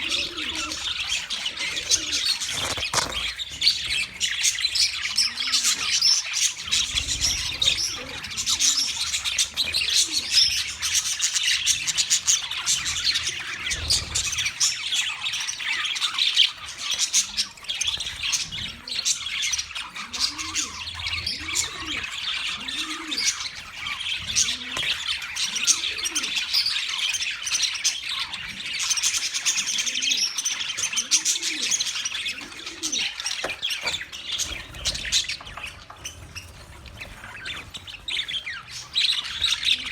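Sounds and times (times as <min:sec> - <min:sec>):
budgerigars chattering and chirping: 0:00.0 - 0:39.9
low arching bird calls: 0:00.0 - 0:39.9.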